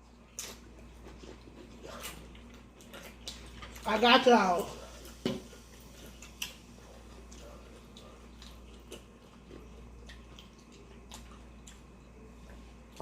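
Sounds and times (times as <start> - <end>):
person chewing: 0.0 - 3.9, 4.8 - 13.0
low steady hum: 0.0 - 13.0.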